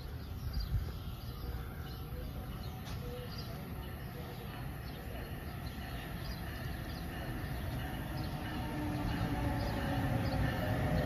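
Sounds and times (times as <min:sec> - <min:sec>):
distant train rumble: 0:00.0 - 0:11.0.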